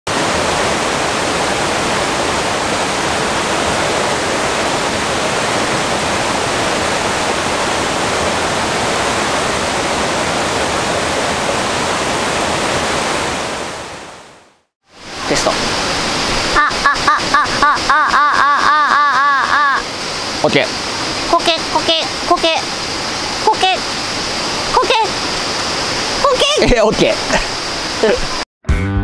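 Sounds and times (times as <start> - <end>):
river water rushing: 0.1 - 28.4.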